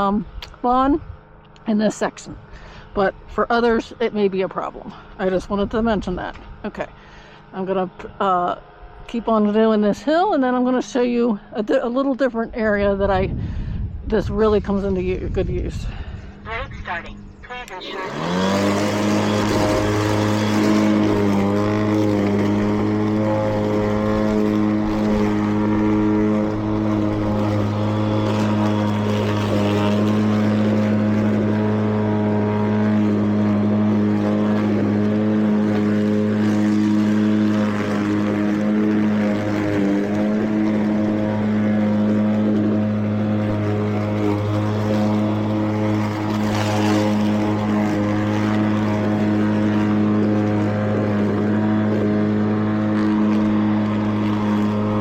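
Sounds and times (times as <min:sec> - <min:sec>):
electric mower motor hum: 0:00.0 - 0:11.5, 0:17.2 - 0:55.0.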